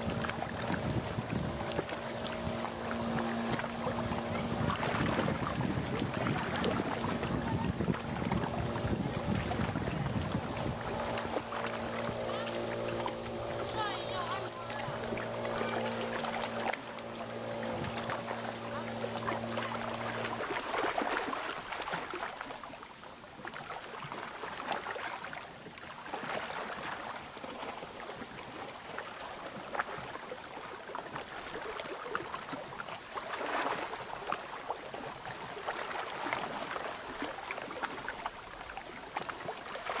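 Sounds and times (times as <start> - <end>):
waves lapping against rocks: 0.0 - 40.0.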